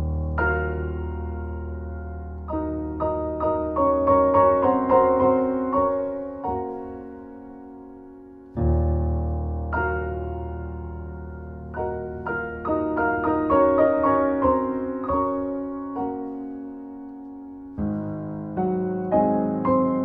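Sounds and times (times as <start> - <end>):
slow gentle piano music: 0.0 - 20.0.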